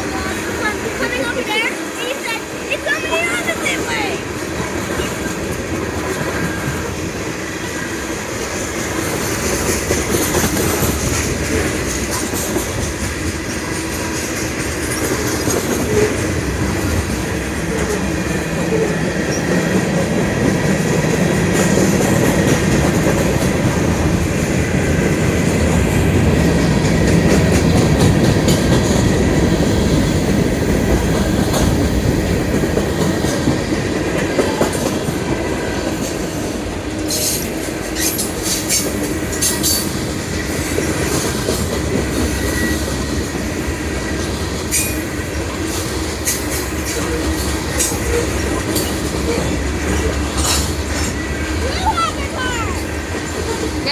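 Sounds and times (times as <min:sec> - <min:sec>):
wheels clacking over rail joints: 0:00.0 - 0:53.9.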